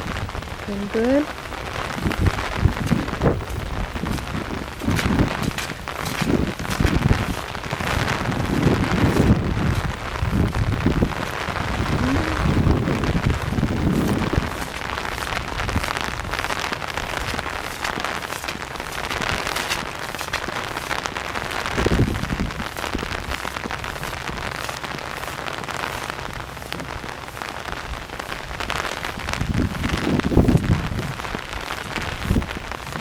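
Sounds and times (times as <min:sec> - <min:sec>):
low rumbles: 0:00.0 - 0:33.0
rain pattering on surfaces: 0:00.0 - 0:33.0.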